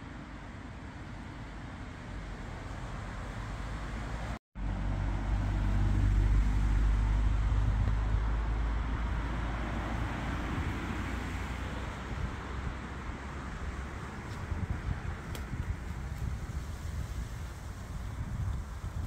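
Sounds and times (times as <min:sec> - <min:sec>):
road traffic: 0:00.0 - 0:19.0
vehicle passing with low rumble: 0:00.0 - 0:19.0.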